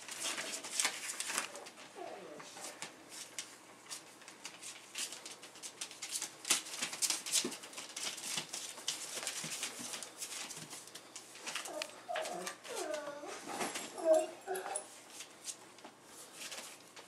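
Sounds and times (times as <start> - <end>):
puppy paws scratching and tapping: 0.0 - 17.0.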